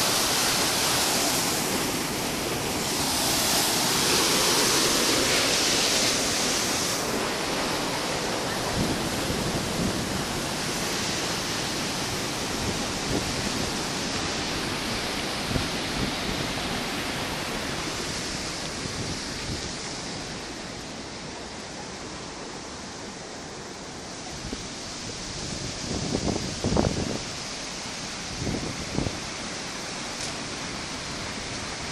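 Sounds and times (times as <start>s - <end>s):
water rushing over weir: 0.0s - 31.9s.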